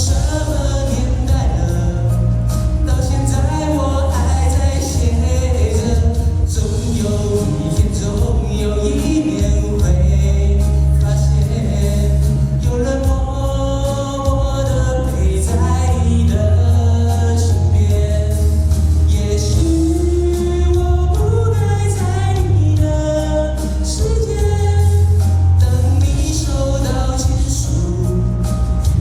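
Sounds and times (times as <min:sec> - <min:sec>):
live pop music with strong bass: 0:00.0 - 0:29.0
person singing: 0:00.0 - 0:29.0.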